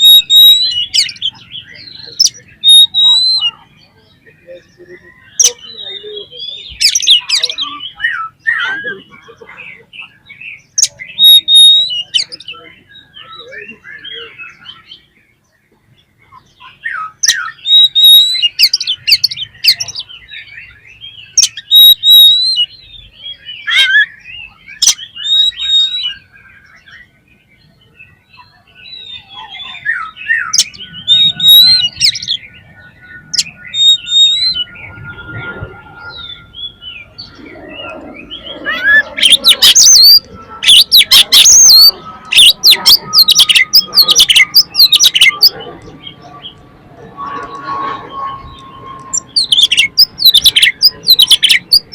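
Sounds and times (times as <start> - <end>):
magpie-robin singing: 0.0 - 51.9.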